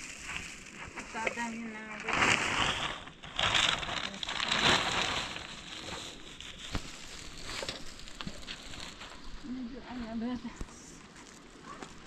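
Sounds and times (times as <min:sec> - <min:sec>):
dry crunching and crackling: 0:00.0 - 0:12.0.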